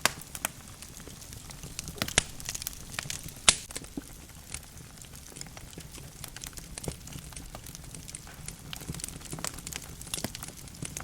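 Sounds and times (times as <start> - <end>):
fire crackling and popping: 0.0 - 11.0
low rumble of flames: 0.0 - 11.0.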